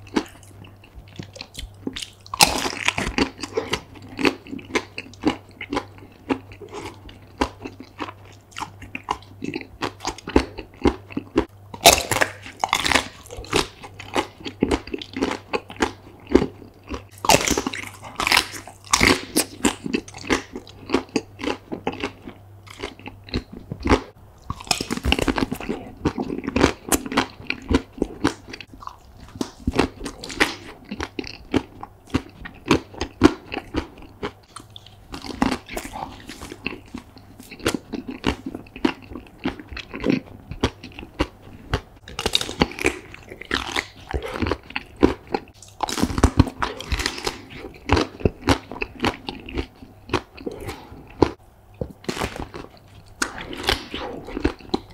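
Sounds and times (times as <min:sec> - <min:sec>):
chewing crunchy chocolate: 0:00.0 - 0:54.9.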